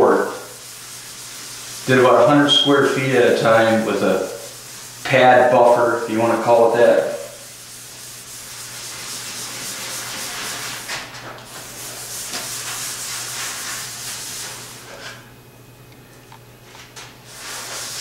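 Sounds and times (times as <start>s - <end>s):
pad scrubbing oiled wood: 0.0s - 14.9s.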